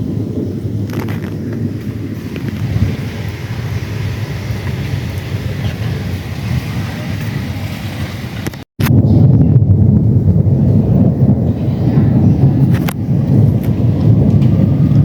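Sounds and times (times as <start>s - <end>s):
moving vehicle rumbling: 0.0s - 15.0s
wind buffeting microphone: 0.0s - 15.0s.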